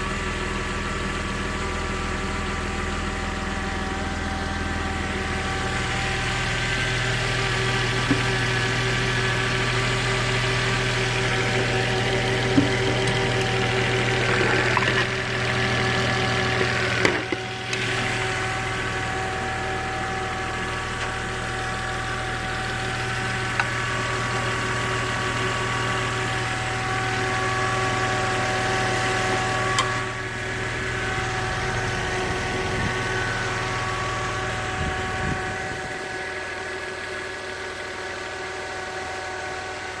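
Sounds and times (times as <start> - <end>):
car engine idling: 0.0 - 39.2.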